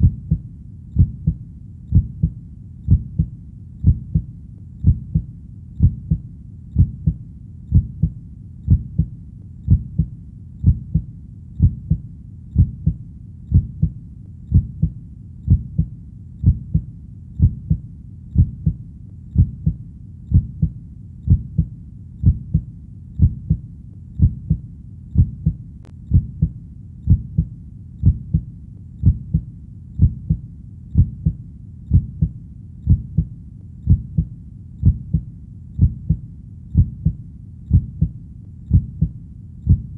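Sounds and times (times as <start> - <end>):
heartbeat thudding: 0.0 - 0.4, 1.0 - 17.8, 18.4 - 23.6, 24.2 - 24.6, 25.2 - 39.9.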